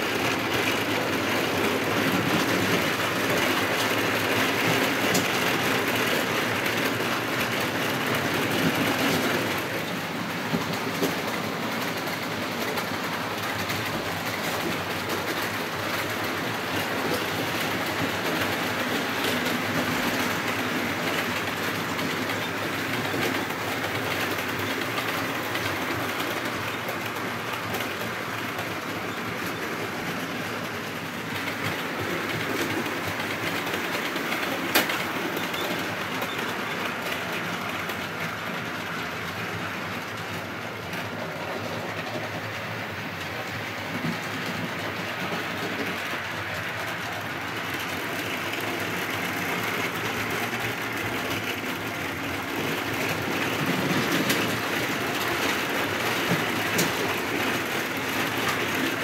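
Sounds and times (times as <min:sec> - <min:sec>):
model train wheels rattling: 0:00.0 - 0:59.0.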